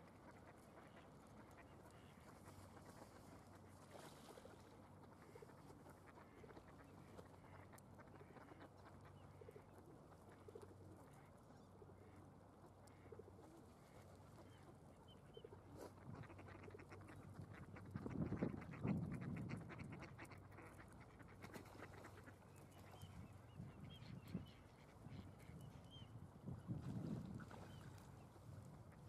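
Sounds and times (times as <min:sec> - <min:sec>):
soft bird calls: 0:00.1 - 0:29.0.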